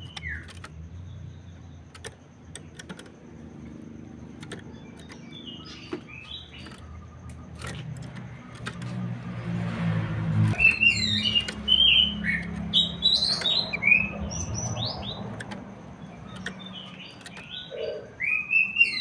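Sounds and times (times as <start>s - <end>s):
bird chirps: 0.0s - 8.6s, 10.4s - 19.0s.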